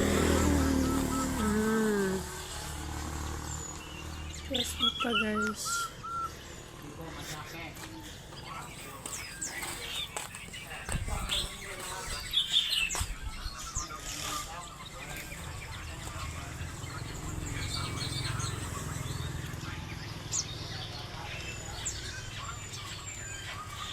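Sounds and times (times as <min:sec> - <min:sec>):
songbirds chirping and whistling: 0:00.0 - 0:23.9.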